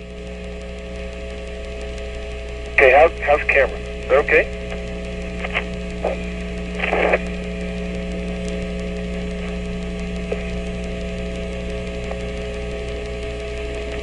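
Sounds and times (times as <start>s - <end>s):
electrical hum and hiss: 0.0s - 14.0s
faint constant tones: 0.0s - 14.0s
faint tick: 0.0s - 14.0s
static bursts: 0.0s - 14.0s.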